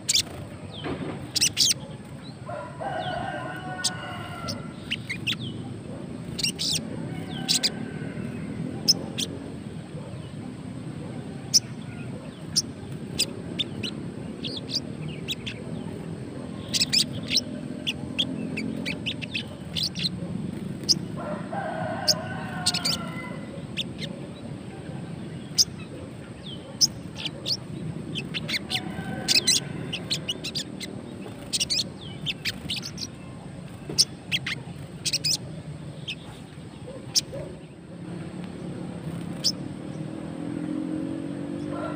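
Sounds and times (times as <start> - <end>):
bird chirping: 0.0 - 41.9.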